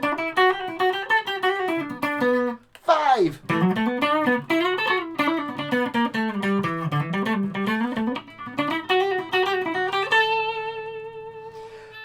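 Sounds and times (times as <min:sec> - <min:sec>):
electric guitar picked notes: 0:00.0 - 0:02.6, 0:03.4 - 0:12.0.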